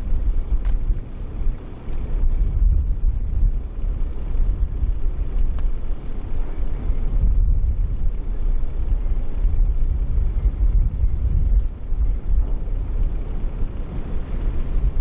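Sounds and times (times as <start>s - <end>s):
low engine rumble: 0.0s - 15.0s
wind buffeting microphone: 0.0s - 15.0s.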